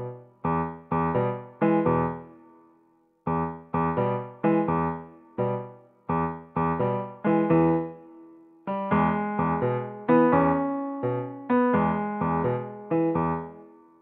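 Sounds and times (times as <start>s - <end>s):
piano chords melody: 0.0s - 14.0s.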